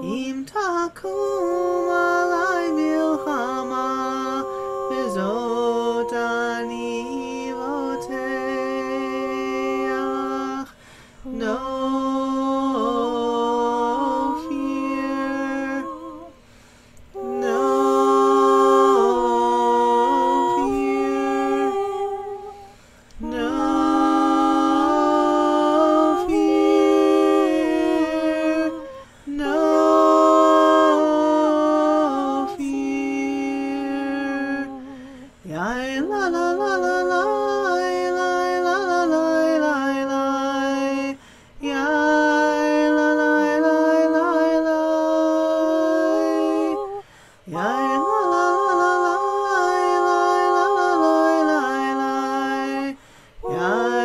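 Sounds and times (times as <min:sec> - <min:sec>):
women singing a cappella chant: 0:00.0 - 0:54.0.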